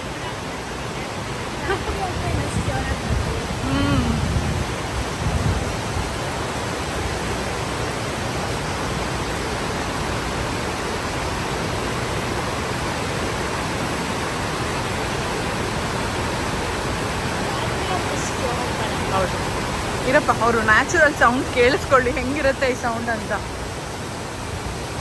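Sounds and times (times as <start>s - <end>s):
fountain water cascading: 0.0s - 25.0s.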